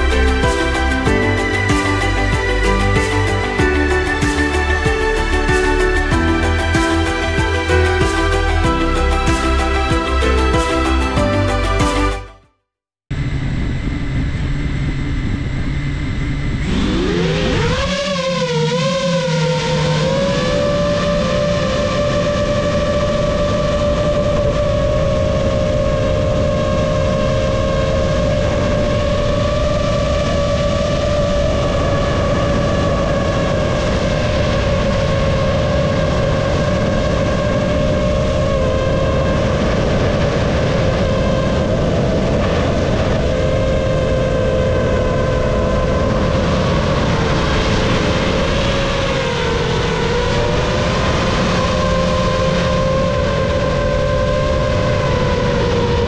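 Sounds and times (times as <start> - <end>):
drone propellers whining: 0.0 - 12.3, 13.2 - 56.0.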